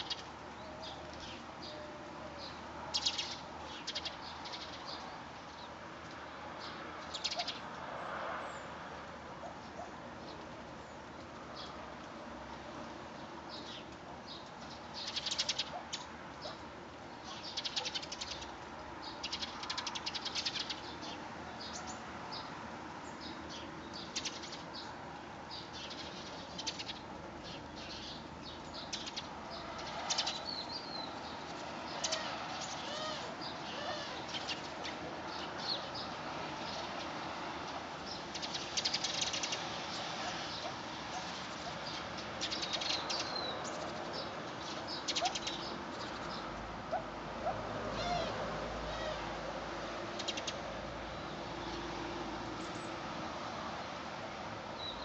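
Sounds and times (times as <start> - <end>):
small birds chirping: 0.0 - 7.9, 13.1 - 48.3, 50.2 - 51.9
wind: 0.0 - 55.0.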